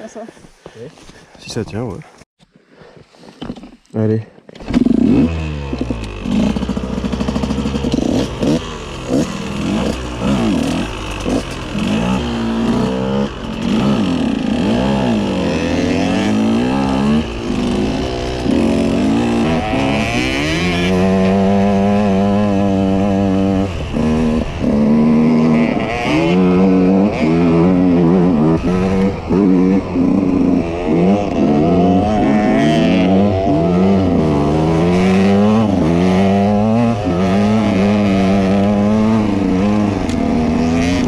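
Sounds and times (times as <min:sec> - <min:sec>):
two-stroke engine revving: 0:04.6 - 0:41.0.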